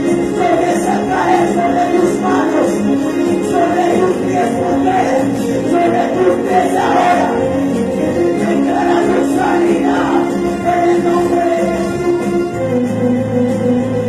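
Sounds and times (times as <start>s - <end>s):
group singing: 0.0s - 12.4s
sustained instrumental backing: 0.0s - 14.0s.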